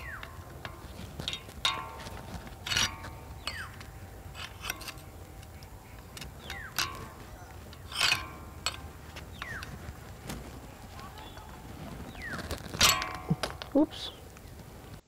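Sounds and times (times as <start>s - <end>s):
metal clicks and clanks: 0.0s - 11.0s, 12.4s - 13.8s
steel disc ringing: 0.0s - 14.3s.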